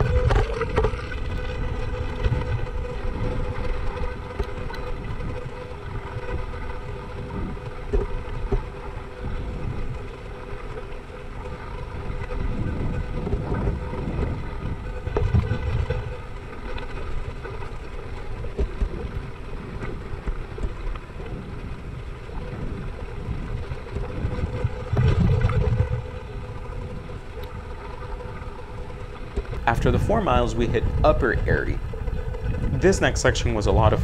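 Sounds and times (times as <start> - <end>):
bike tyres rolling on gravel: 0.0 - 34.0
wind buffeting a camera: 0.0 - 34.0.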